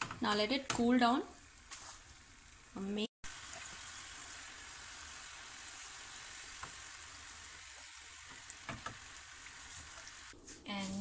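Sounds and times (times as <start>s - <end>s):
dough sizzling in hot oil: 0.1s - 10.4s.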